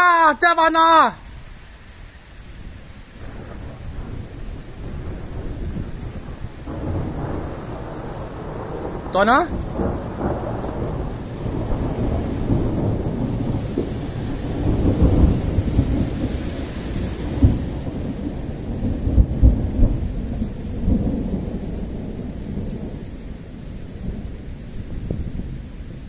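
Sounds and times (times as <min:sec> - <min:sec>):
steady rain: 0:00.0 - 0:26.0
rolling thunder: 0:02.6 - 0:26.0.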